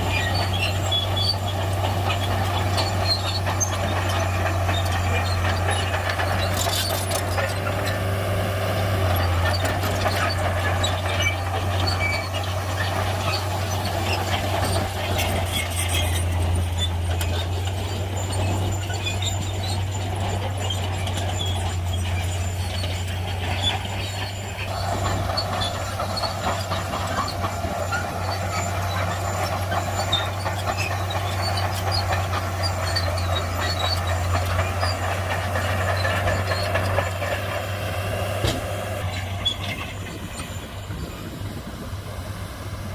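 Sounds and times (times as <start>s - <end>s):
bulldozer diesel engine running: 0.0s - 42.9s
steel tracks squeaking and clanking: 0.0s - 42.9s.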